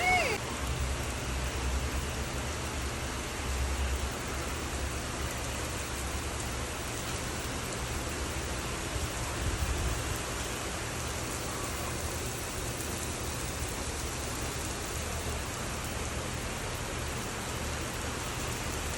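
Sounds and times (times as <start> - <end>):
rain pattering: 0.0 - 18.9.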